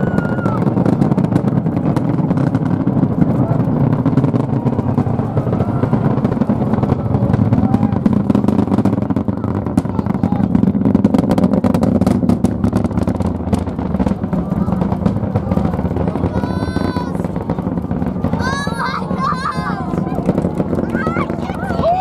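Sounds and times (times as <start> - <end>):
distant rocket engines rumbling: 0.0 - 22.0.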